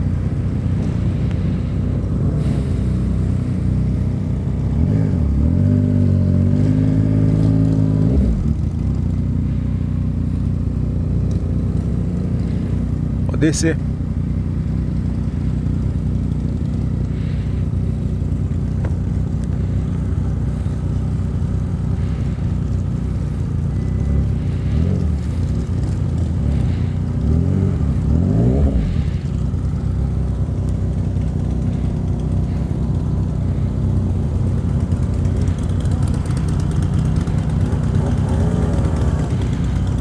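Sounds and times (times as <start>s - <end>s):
motorcycle engine rumble: 0.0s - 40.0s.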